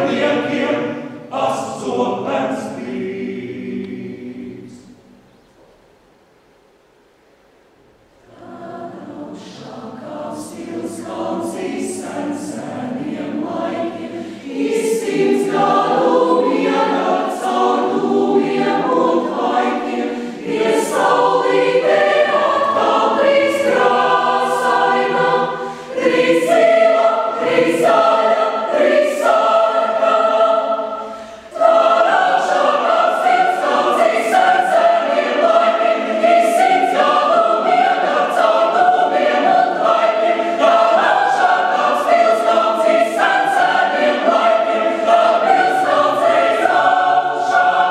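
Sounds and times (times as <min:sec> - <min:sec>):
choir breaths: 0:00.0 - 0:01.8, 0:08.2 - 0:47.9
mixed choir singing: 0:00.0 - 0:05.1, 0:08.2 - 0:47.9.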